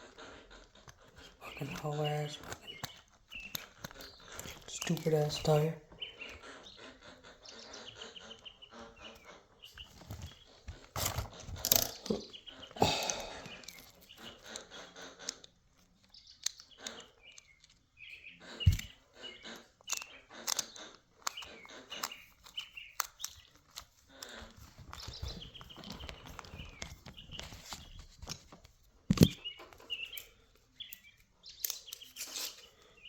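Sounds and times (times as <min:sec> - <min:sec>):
birds chirping: 0:00.0 - 0:33.0
clicks and scrapes of hand work: 0:00.1 - 0:05.6, 0:08.4 - 0:33.0.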